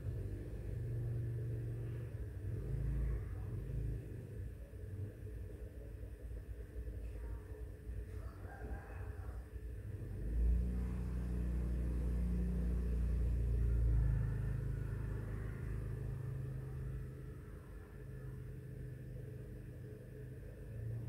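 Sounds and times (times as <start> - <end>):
passing vehicle engine rumble: 0.0 - 21.0.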